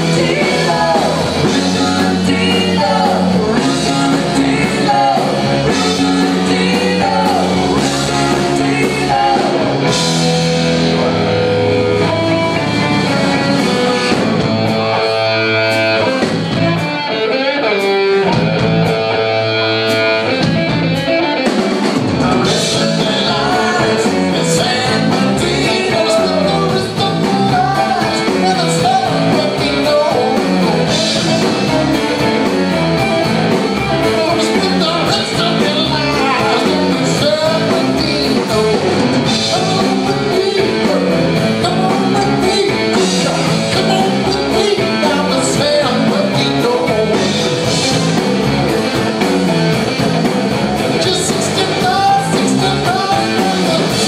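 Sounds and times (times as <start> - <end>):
drums and cymbals: 0.0 - 17.0, 19.9 - 54.0
rock band playing: 0.0 - 54.0.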